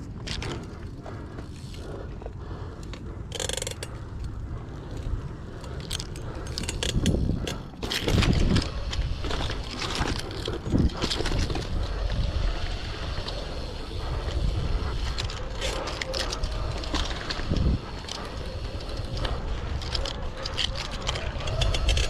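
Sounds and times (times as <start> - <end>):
bicycle tyres rolling over dirt: 0.0 - 22.0
bike rattling and clicking: 0.0 - 22.0
wind buffeting microphone: 0.0 - 22.0.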